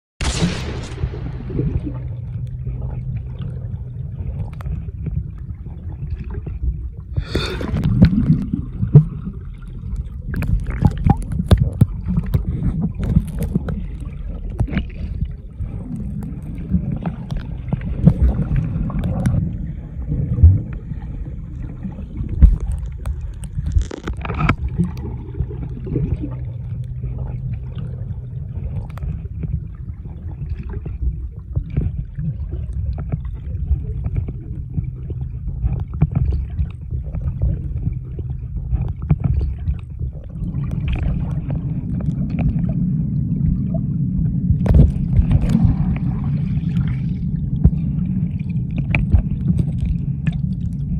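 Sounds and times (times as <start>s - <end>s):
underwater rumble and gurgling: 0.2s - 50.9s.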